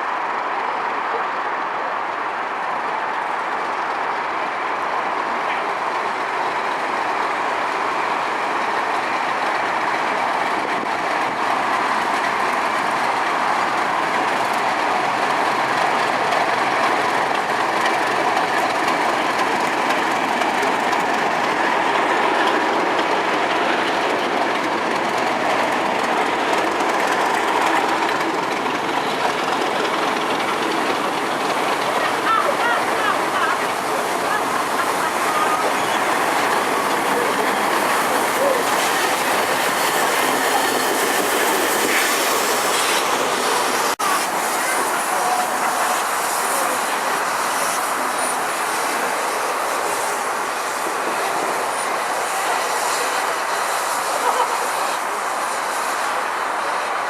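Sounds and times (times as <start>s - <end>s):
train wheels clickety-clack on rails: 0.0s - 57.0s.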